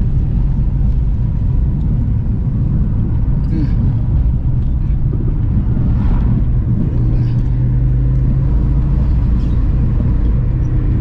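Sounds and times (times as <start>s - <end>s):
car engine drone: 0.0s - 11.0s
road rumble: 0.0s - 11.0s.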